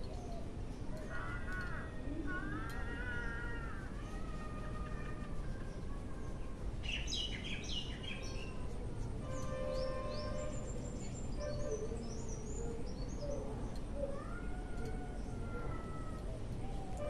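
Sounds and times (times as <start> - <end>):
birds chirping: 0.0 - 17.0
drawn-out wavering bird call: 0.0 - 17.0.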